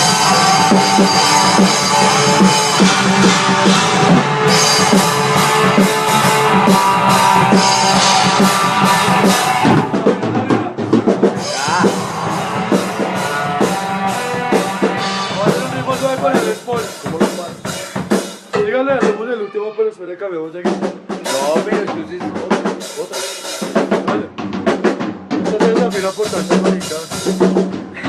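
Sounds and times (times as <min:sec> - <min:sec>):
drum hits: 0:00.0 - 0:19.8, 0:20.6 - 0:28.0
rock music: 0:00.0 - 0:28.0.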